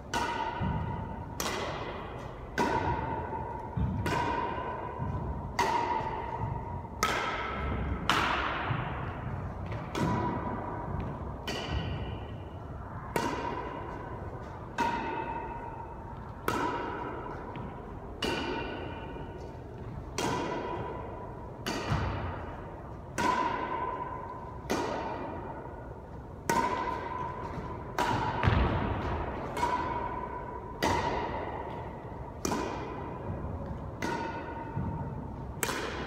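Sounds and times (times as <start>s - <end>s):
badminton rackets hitting shuttlecock: 0.0s - 36.0s.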